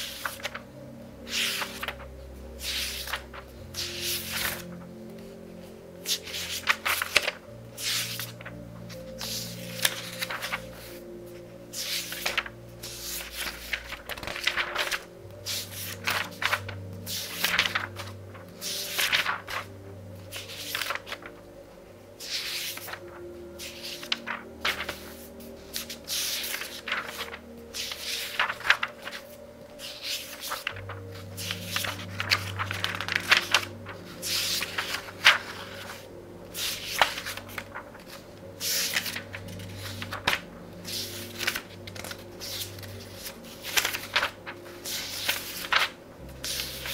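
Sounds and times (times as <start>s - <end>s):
book pages turning: 0.0s - 21.5s, 22.2s - 46.9s
faint soft background music: 0.0s - 46.9s.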